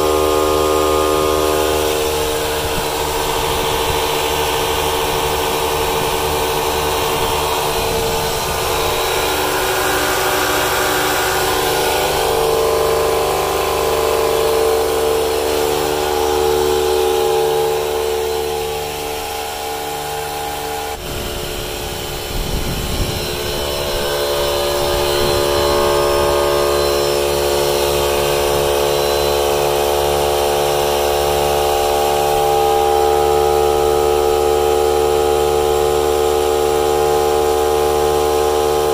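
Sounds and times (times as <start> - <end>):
tyre inflator pump running: 0.0 - 38.9.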